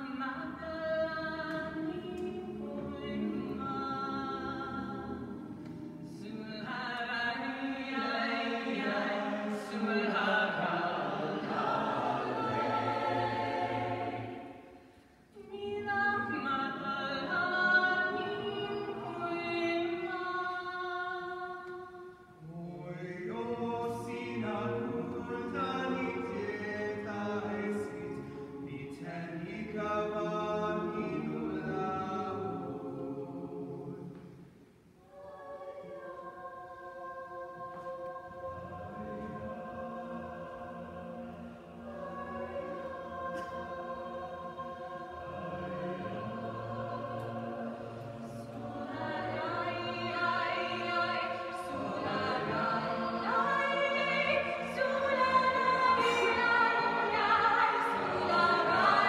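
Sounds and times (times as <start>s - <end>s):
mixed choir singing a cappella: 0.0s - 59.0s.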